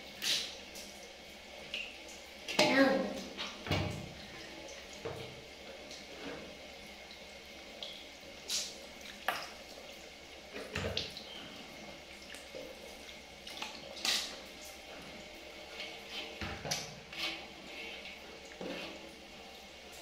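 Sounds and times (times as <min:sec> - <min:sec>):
shower spray on metal tub: 0:00.0 - 0:06.7, 0:07.8 - 0:20.0.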